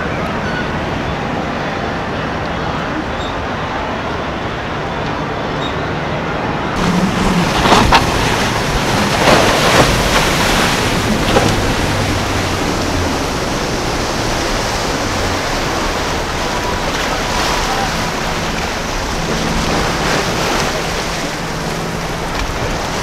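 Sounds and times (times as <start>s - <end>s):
low engine drone: 0.0s - 23.0s
water rushing and splashing: 0.0s - 23.0s.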